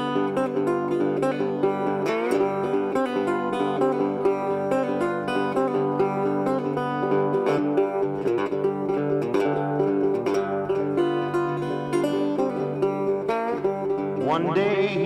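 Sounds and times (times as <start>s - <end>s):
instrumental music with picked guitar: 0.0s - 15.0s.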